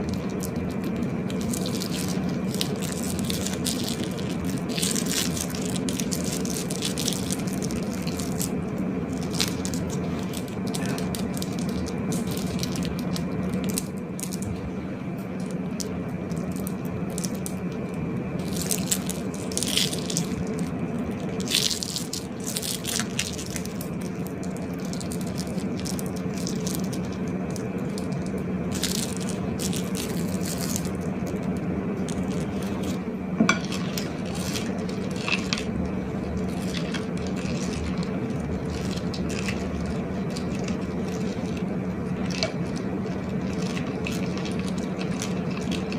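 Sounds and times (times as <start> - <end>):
slime squishing by hand: 0.0 - 45.9
steady low hum: 0.0 - 45.9.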